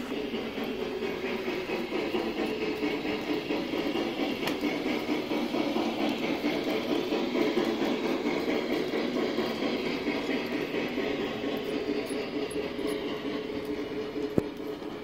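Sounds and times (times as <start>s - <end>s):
model train motors whirring: 0.0s - 15.0s.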